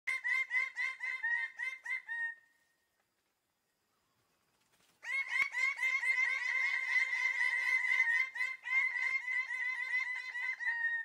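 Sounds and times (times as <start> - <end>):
bird calling: 0.1 - 3.0, 3.9 - 11.0.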